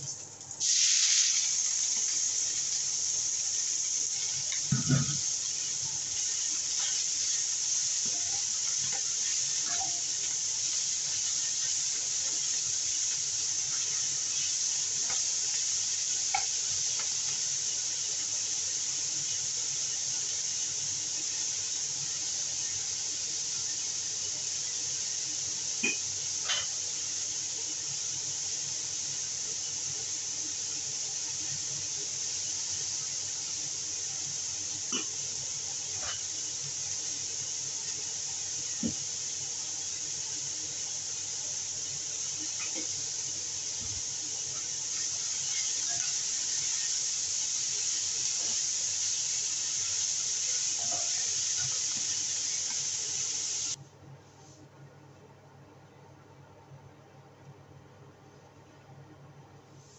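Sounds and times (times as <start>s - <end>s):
greens sizzling in a wok: 0.0s - 53.8s.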